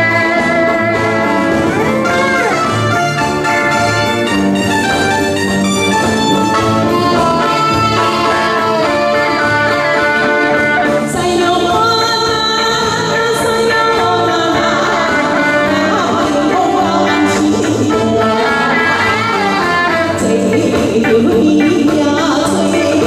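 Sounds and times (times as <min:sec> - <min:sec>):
woman singing into microphone: 0:00.0 - 0:02.7, 0:06.5 - 0:23.0
electric bass guitar: 0:00.0 - 0:23.0.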